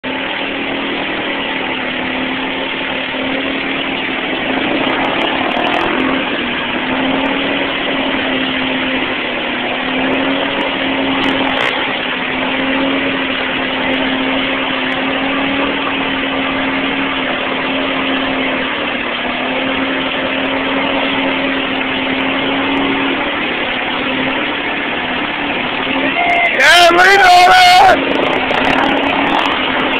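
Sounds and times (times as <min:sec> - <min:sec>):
atv engine revving: 0:00.0 - 0:29.9
quad churning through mud: 0:00.0 - 0:29.9.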